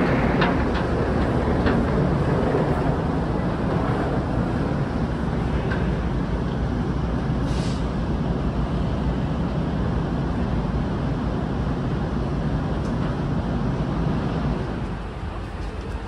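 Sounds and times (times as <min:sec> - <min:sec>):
ferry machinery rumble and hiss: 0:00.0 - 0:16.0.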